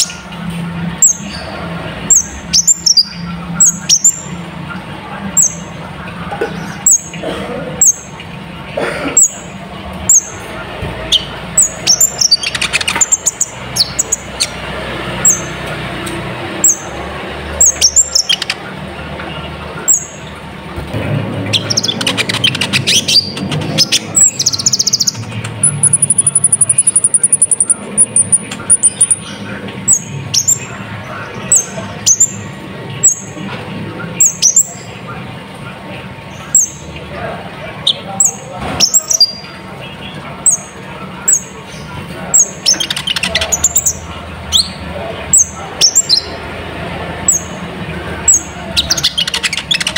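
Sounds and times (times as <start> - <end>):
bird chirping and trilling: 0.0 - 7.2, 7.8 - 8.3, 9.2 - 15.7, 16.4 - 18.7, 19.4 - 20.4, 21.4 - 33.4, 34.1 - 35.0, 36.2 - 46.6, 47.2 - 49.9.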